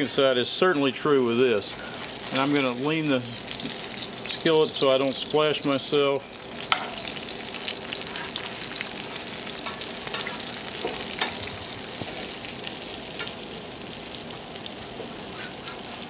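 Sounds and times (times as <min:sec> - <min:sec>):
fish sizzling in a skillet: 0:00.0 - 0:16.0.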